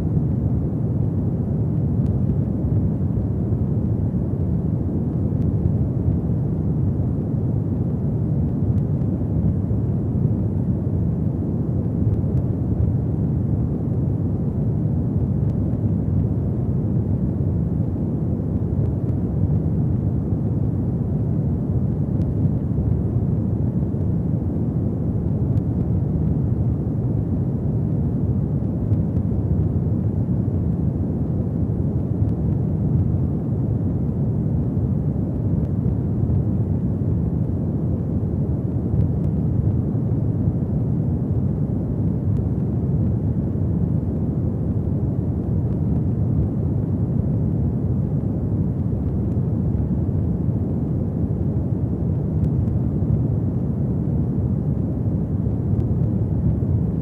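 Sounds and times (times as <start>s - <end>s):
faint fire crackles: 0.0s - 57.0s
fire burning in fireplace: 0.1s - 57.0s.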